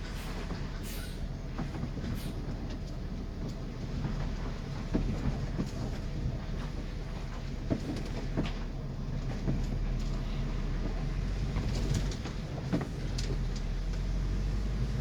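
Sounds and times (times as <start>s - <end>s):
bus engine and road rumble: 0.0s - 15.0s
bus body knocks and rattles: 1.4s - 10.2s, 10.8s - 14.1s.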